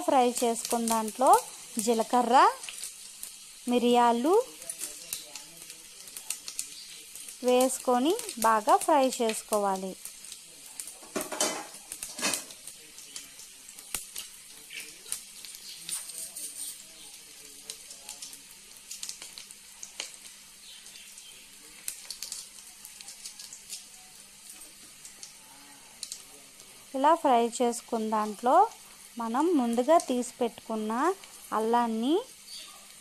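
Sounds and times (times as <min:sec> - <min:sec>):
spices sizzling and popping in oil: 0:00.0 - 0:33.0.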